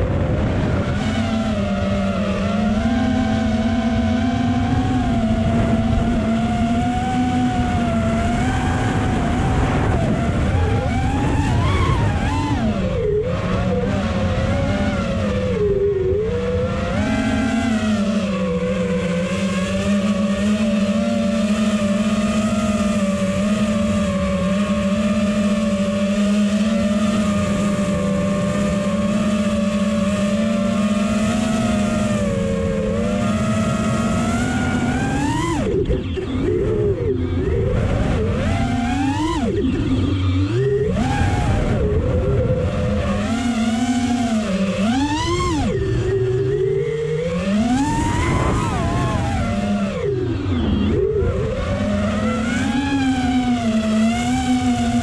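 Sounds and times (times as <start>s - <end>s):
drone motors whining: 0.0s - 55.0s
wind rumbling on microphone: 0.0s - 55.0s.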